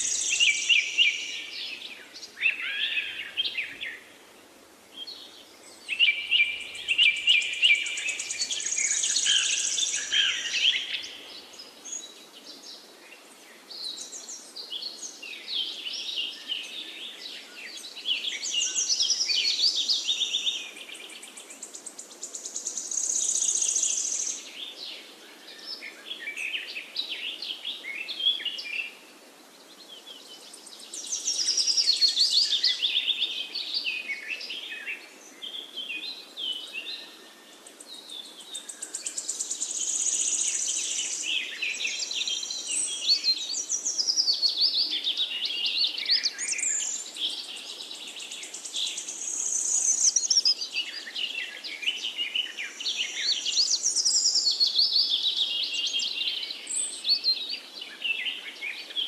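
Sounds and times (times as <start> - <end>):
faint background hiss: 0.0 - 59.0
songbirds singing with trills: 0.0 - 59.0.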